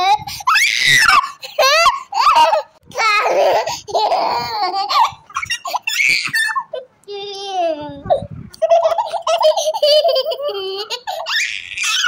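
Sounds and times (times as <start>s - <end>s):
girl laughing and squealing: 0.0s - 6.9s, 8.0s - 12.0s.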